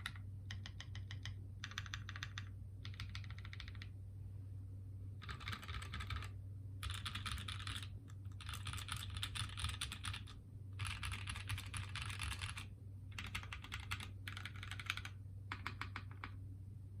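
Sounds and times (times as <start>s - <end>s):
mechanical keyboard typing: 0.0s - 3.9s, 5.2s - 16.4s
steady low hum: 0.0s - 17.0s.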